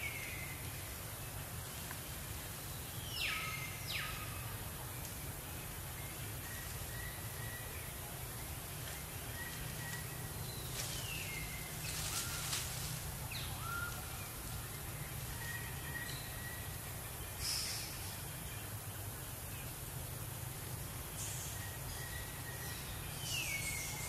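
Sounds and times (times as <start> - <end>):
low forest rumble: 0.0 - 24.0.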